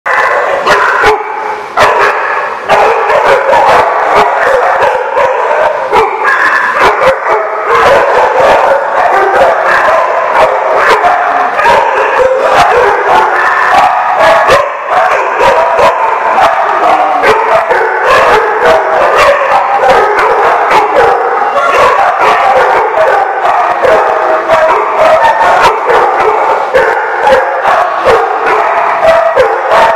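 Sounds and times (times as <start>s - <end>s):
many dogs barking: 0.1s - 29.9s.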